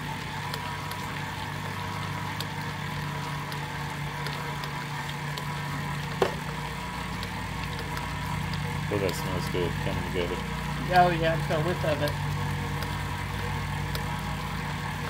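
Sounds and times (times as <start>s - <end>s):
stand mixer motor hum: 0.0s - 15.0s.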